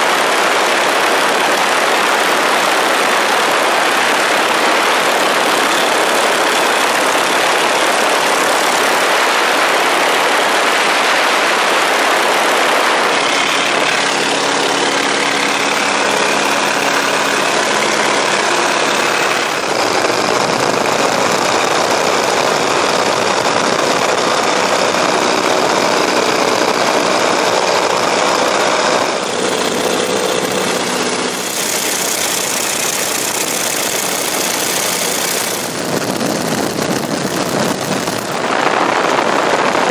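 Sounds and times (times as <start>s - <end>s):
light aircraft engines: 0.0s - 39.9s
wind noise: 0.0s - 39.9s.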